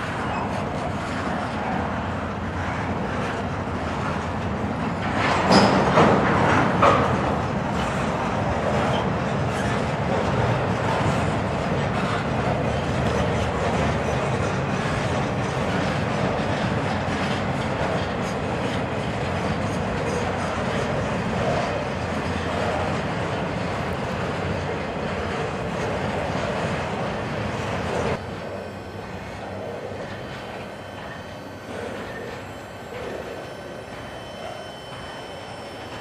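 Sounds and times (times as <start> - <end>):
train wheels rumbling and rattling: 0.0 - 36.0.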